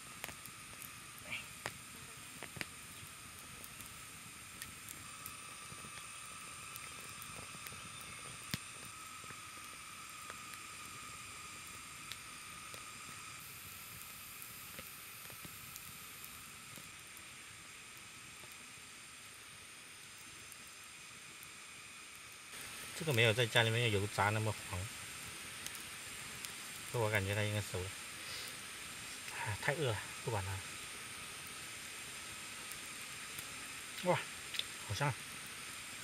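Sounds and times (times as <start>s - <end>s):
campfire crackling: 0.0s - 36.0s
sharp pops from burning sticks: 0.0s - 36.0s.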